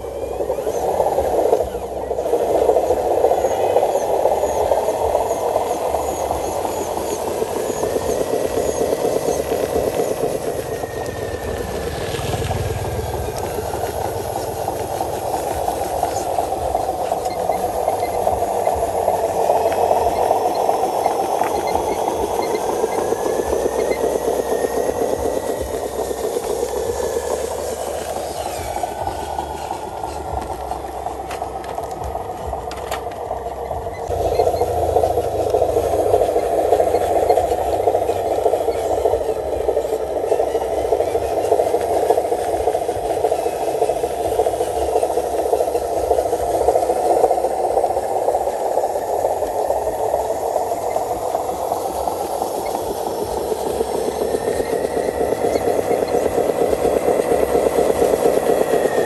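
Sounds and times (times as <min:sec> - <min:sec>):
toy truck drive whirring: 0:00.0 - 0:59.0
wheels rattling on concrete: 0:00.0 - 0:59.0.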